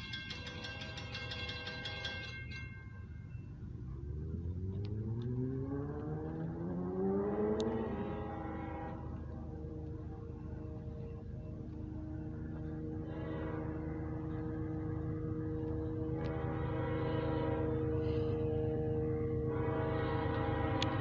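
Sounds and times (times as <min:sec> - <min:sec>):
crossing warning bell: 0:00.0 - 0:06.5, 0:07.1 - 0:21.0
diesel locomotive engine revving: 0:03.7 - 0:21.0.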